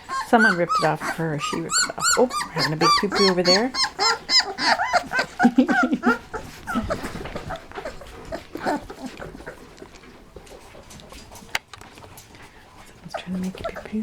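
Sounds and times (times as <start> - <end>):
puppies whimpering: 0.0 - 14.0
soft rustling: 0.0 - 14.0.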